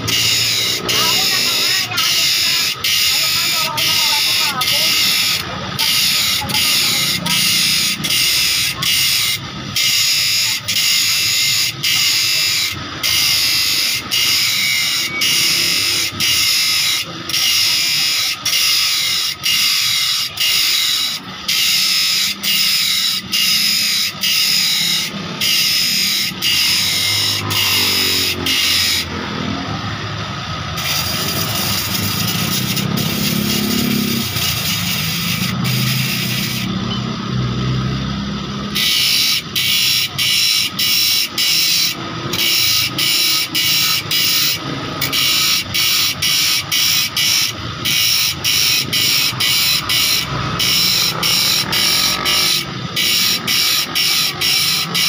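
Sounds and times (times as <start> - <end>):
bench grinder sharpening saw teeth: 0.0 - 29.2, 30.7 - 37.0, 38.7 - 55.0
bench grinder running: 0.0 - 55.0.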